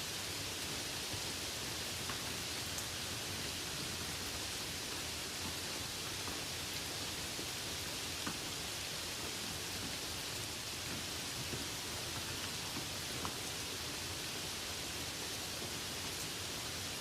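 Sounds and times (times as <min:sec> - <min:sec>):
light rain on grass: 0:00.0 - 0:17.0.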